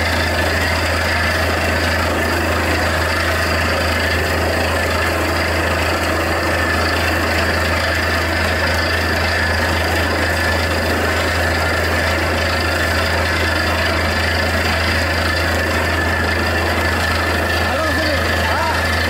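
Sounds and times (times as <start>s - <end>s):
drilling rig droning: 0.0s - 19.0s.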